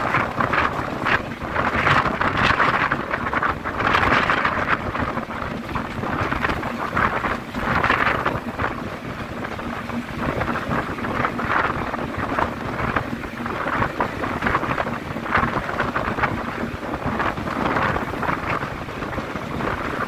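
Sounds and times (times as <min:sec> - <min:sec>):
diesel locomotive running: 0:00.0 - 0:20.0
wind buffeting microphone: 0:00.0 - 0:20.0.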